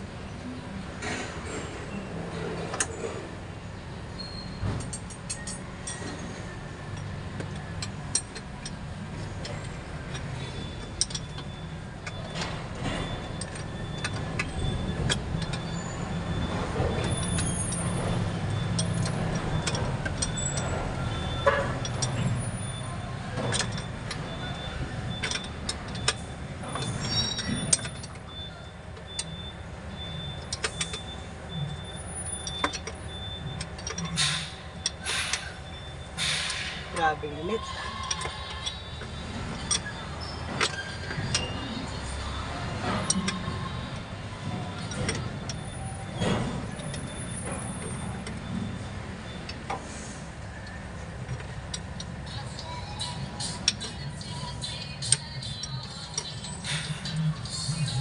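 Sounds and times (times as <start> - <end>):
low mechanical rumble: 0.0 - 58.0.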